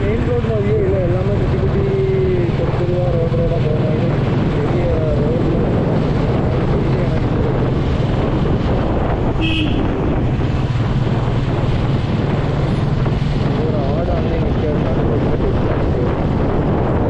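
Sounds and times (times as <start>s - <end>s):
motorcycle engine running: 0.0s - 17.0s
wind on microphone: 0.0s - 17.0s.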